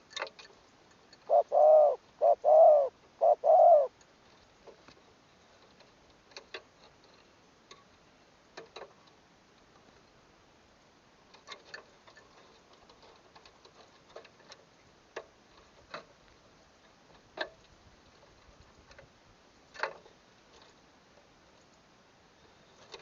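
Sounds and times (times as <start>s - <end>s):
low hiss: 0.0s - 23.0s.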